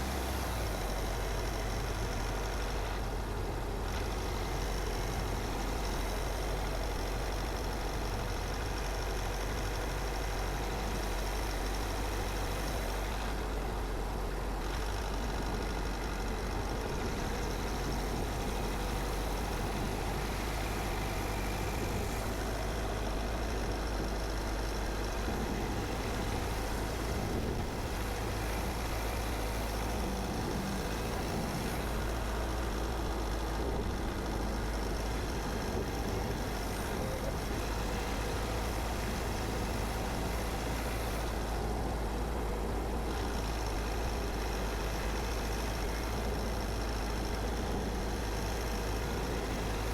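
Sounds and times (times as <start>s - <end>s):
low engine hum: 0.0s - 49.9s
road and tyre noise: 0.0s - 49.9s.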